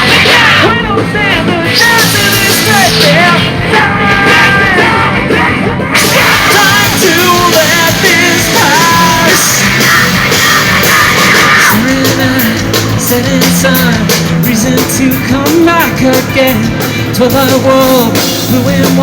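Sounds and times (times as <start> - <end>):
person yelling and singing: 0.0 - 16.6
distorted guitars: 0.0 - 19.0
drums: 0.0 - 19.0.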